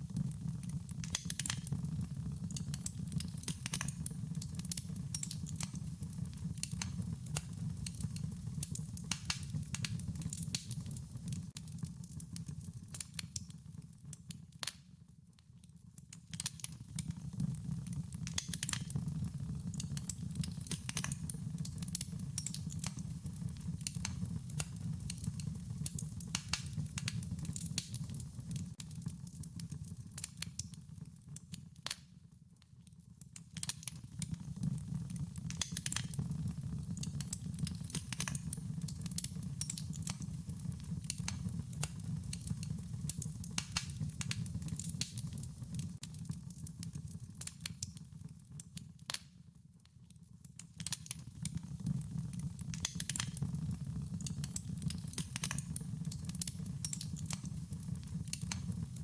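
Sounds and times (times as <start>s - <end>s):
low rumble of burning: 0.0s - 14.2s, 16.1s - 31.4s, 33.6s - 49.2s, 50.8s - 59.0s
wood fire crackling and popping: 0.0s - 59.0s.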